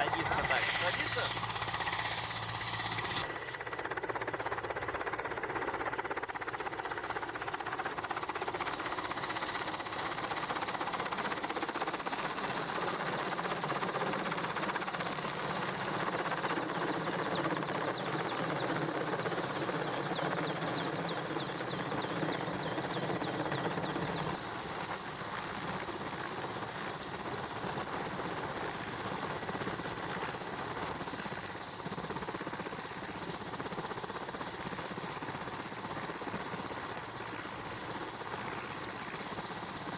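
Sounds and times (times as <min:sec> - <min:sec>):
helicopter rotor and turbine whine: 0:00.0 - 0:39.9.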